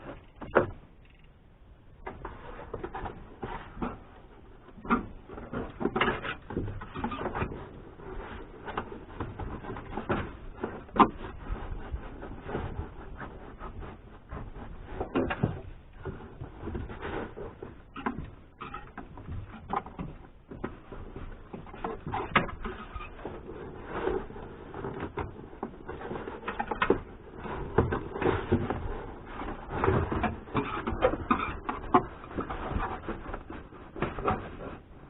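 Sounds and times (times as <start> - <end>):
hands rustling and scraping headliner: 1.6 - 35.0.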